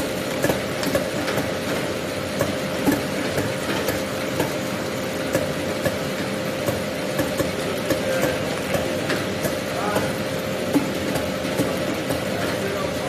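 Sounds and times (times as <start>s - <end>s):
conveyor motor hum: 0.0s - 13.0s.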